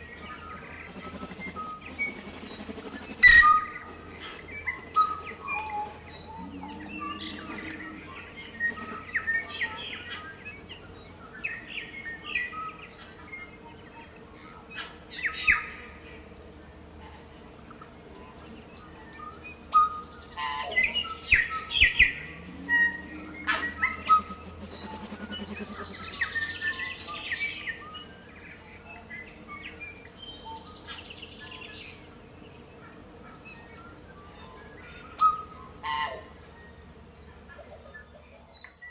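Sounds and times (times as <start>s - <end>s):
birds singing chirps and clicks: 0.0s - 38.9s
faint steady hum: 0.0s - 38.9s.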